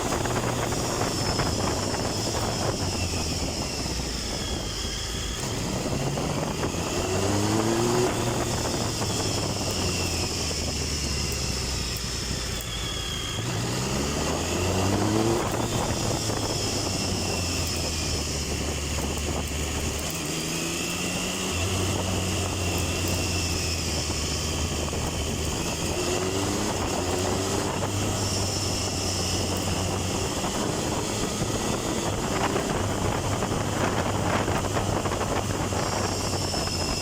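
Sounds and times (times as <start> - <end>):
motorcycle engine accelerating: 0.0 - 37.0
wind rush: 0.0 - 37.0.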